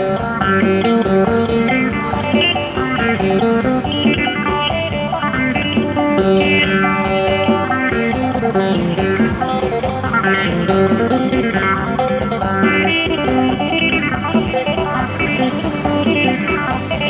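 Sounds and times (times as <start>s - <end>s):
held drone tones: 0.0s - 17.0s
plucked lute melody: 0.0s - 17.0s.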